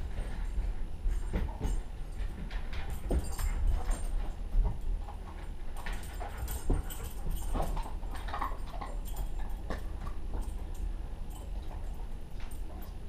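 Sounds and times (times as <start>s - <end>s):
dog paws tapping and scuffing: 0.0s - 13.0s.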